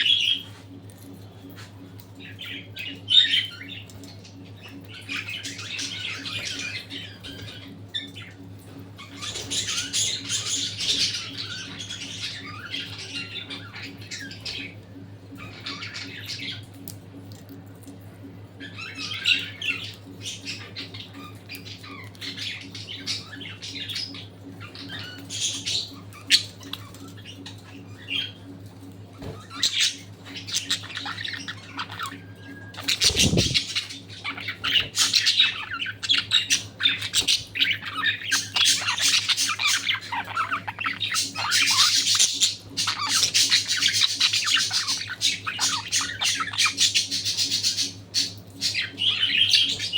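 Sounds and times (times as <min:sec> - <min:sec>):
budgerigars chattering and squawking: 0:02.2 - 0:16.7, 0:18.6 - 0:28.5, 0:29.1 - 0:49.9.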